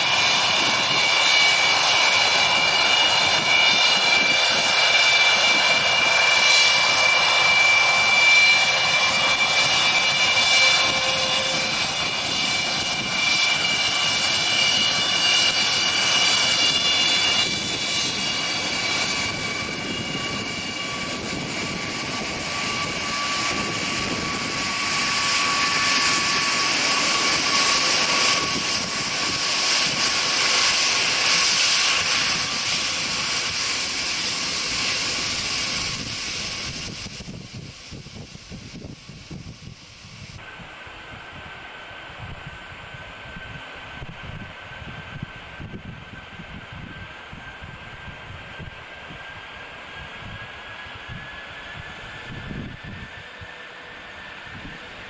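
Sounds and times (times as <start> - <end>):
jet engines whining: 0.0 - 55.0
jet exhaust rushing hiss: 0.0 - 55.0.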